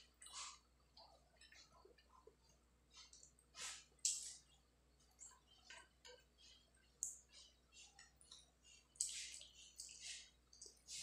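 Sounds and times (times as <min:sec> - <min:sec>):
fingers mixing rice wet squishes: 0:00.0 - 0:11.0.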